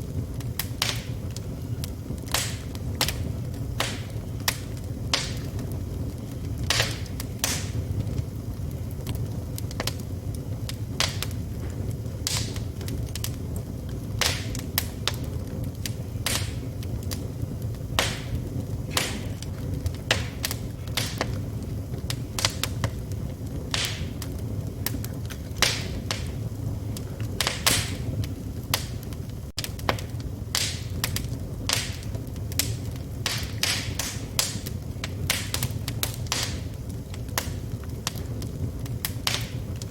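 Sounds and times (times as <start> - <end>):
flames rumbling and hissing: 0.0 - 39.9
wood fire crackles and pops: 0.0 - 39.9.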